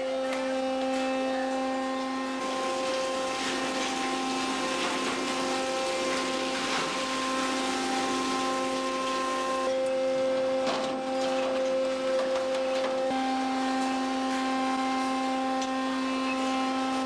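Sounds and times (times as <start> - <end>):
machinery droning hum: 0.0 - 17.0.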